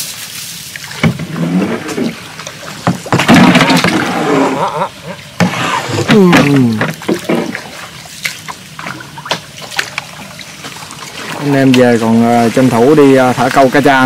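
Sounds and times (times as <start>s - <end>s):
paddle splashing in water: 0.0s - 14.0s
paddle knocking boat hull: 0.9s - 4.1s, 5.4s - 14.0s.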